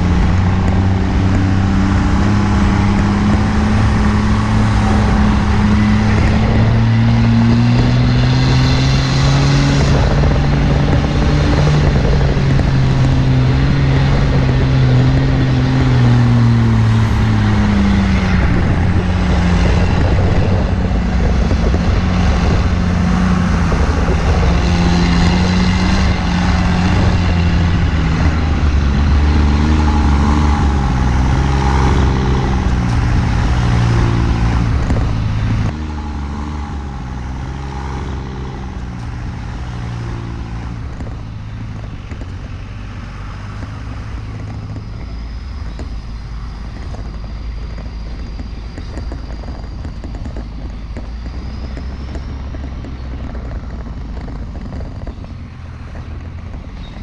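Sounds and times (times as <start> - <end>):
diesel truck engine under load: 0.0 - 57.0.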